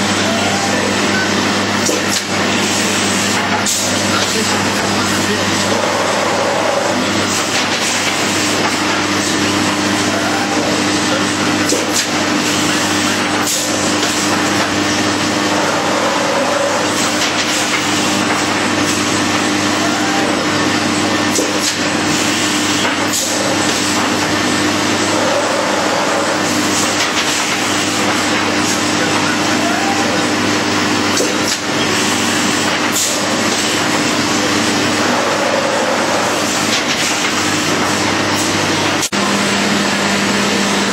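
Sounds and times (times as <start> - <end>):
cutting machine running: 0.0 - 40.9.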